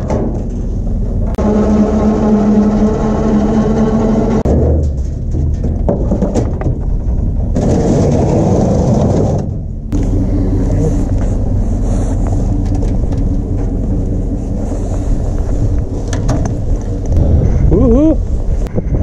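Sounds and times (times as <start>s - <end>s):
road rumble: 0.0s - 19.0s
truck engine drone: 0.0s - 19.0s.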